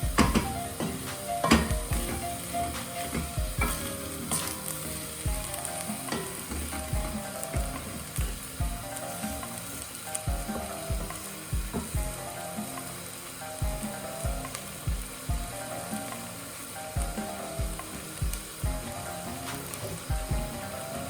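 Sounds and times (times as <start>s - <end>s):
background music with low beat: 0.0s - 21.0s
meat sizzling in a frying pan: 0.0s - 21.0s.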